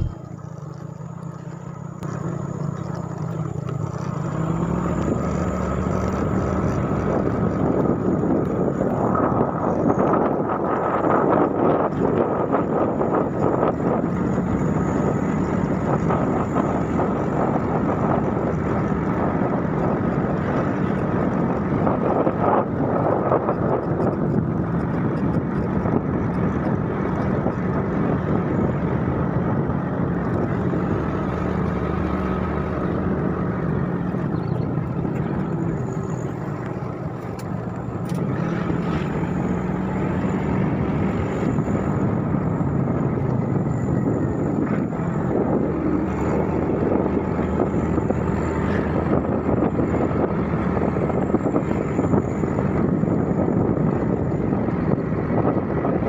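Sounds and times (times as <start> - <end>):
wind on microphone: 0.0 - 0.2, 4.4 - 56.0
motor scooter engine running: 0.0 - 56.0.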